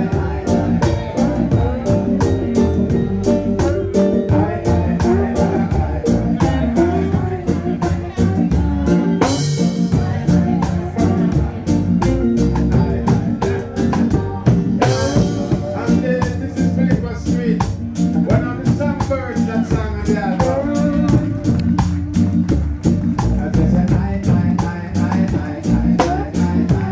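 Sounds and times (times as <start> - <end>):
live reggae band: 0.0 - 26.9
person singing: 0.0 - 26.9.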